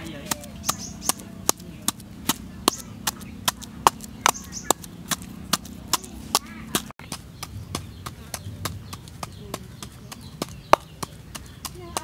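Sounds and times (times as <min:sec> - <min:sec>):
wooden pestle pounding in bowl: 0:00.0 - 0:12.0.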